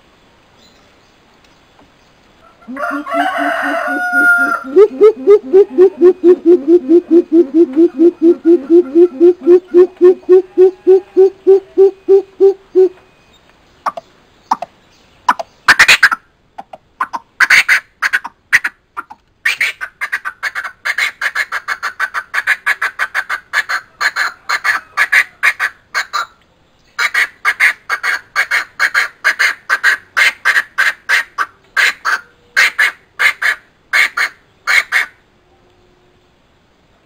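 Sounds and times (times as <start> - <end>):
coucal calling harsh clucking: 2.4 - 13.0, 15.3 - 26.4, 27.0 - 35.2.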